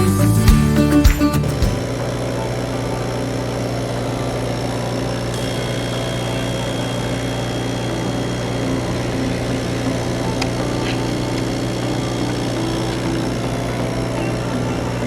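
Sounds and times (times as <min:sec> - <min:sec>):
cutting machine humming: 0:00.0 - 0:15.0
thin high whine: 0:01.5 - 0:15.0.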